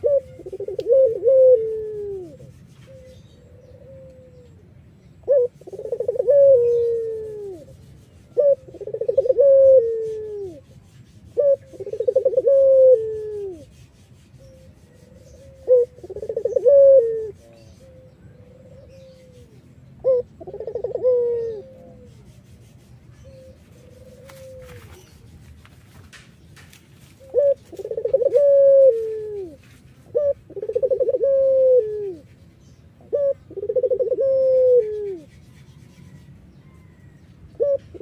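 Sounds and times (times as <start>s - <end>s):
dove cooing: 0.0s - 25.3s, 27.2s - 38.0s.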